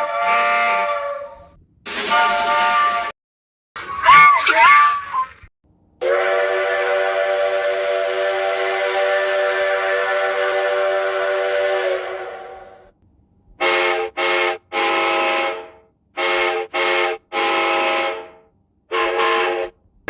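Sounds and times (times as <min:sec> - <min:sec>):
steam whistle toots: 0:00.0 - 0:03.1, 0:06.0 - 0:12.9, 0:13.6 - 0:19.8.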